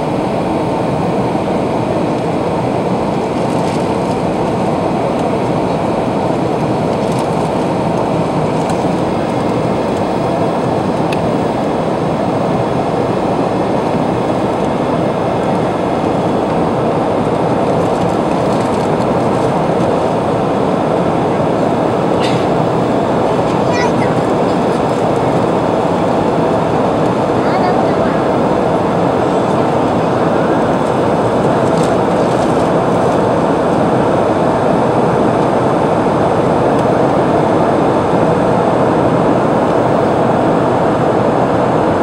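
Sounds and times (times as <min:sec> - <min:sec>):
airliner cabin engine noise: 0:00.0 - 0:42.0.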